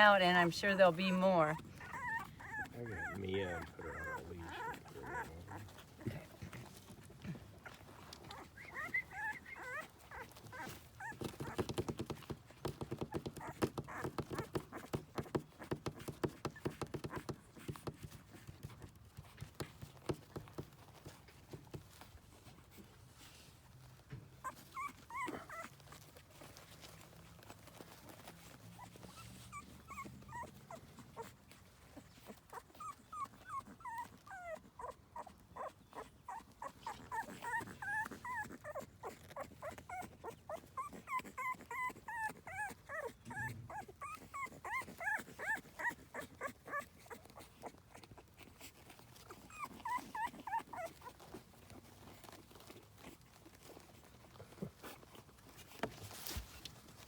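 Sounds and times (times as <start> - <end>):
puppies whimpering and squeaking: 0.0 - 57.0.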